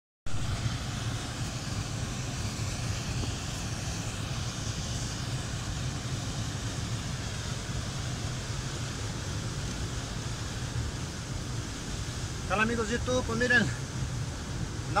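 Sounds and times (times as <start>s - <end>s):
waterfall rushing: 0.3s - 15.0s.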